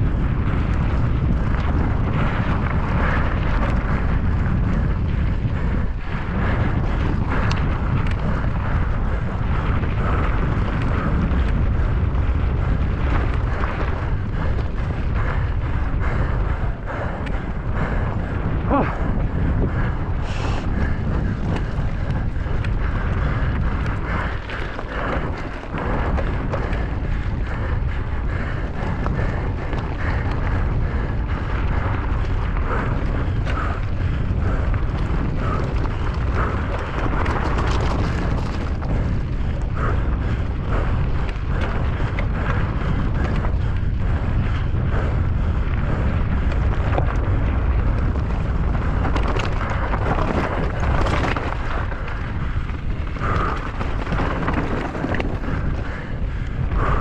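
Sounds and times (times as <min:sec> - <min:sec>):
bike clattering and rattling: 0:00.0 - 0:57.0
wind buffeting microphone: 0:00.0 - 0:57.0.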